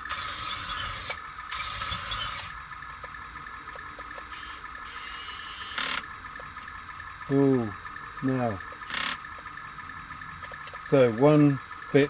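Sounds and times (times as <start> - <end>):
toy tank motors whirring: 0.0 - 12.0.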